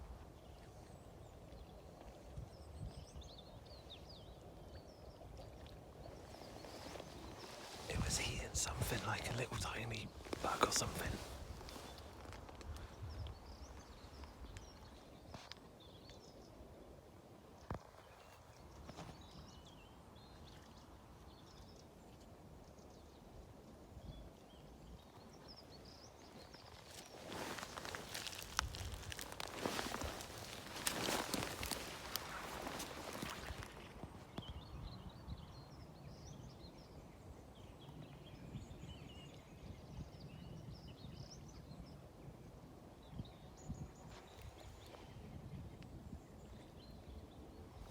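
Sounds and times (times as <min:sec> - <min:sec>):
faint birdsong chirps: 0:00.0 - 0:47.9.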